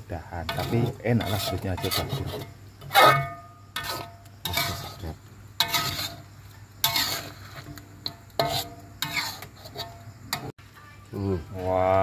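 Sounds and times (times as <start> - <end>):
utensil scraping a pan: 0.4 - 10.5.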